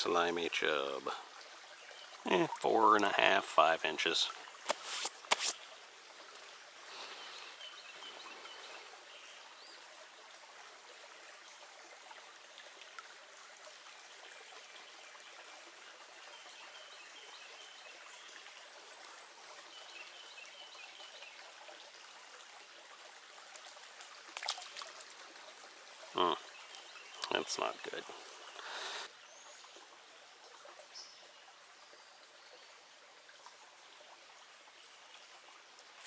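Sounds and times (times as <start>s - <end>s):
creek water trickling: 0.0s - 36.0s.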